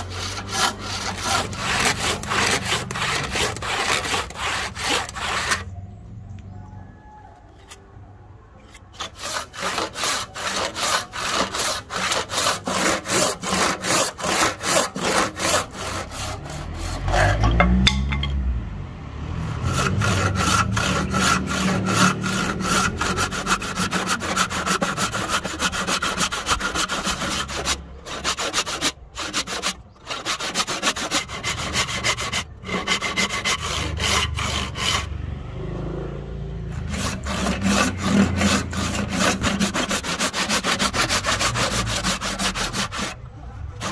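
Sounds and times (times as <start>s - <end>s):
hand saw cutting wood: 0.0s - 5.7s, 8.7s - 17.9s, 19.4s - 35.2s, 36.7s - 43.9s.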